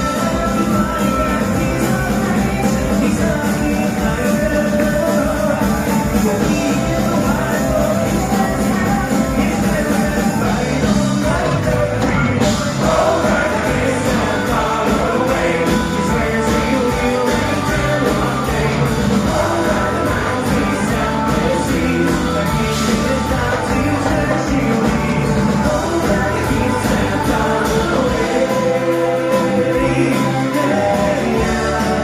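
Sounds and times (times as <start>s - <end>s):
live rock band playing: 0.0s - 32.0s
steady drum beat: 0.0s - 32.0s.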